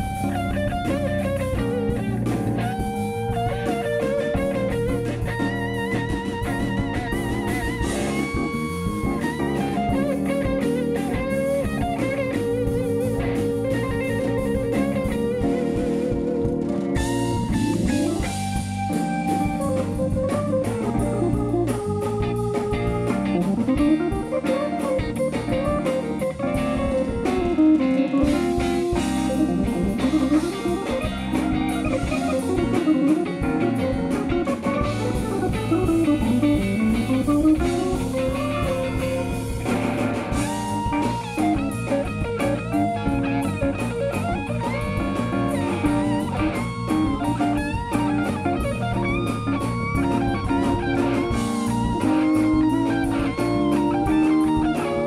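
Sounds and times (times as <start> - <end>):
live band playing instrumental: 0.0 - 55.0.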